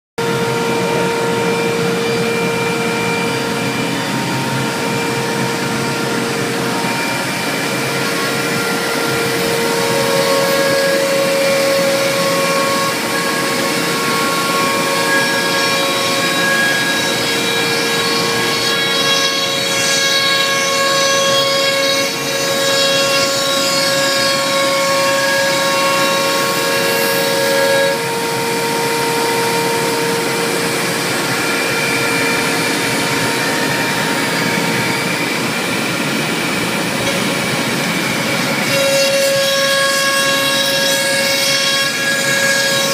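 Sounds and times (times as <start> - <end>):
dust extraction running: 0.2 - 42.5
router spindle whine: 0.2 - 42.9.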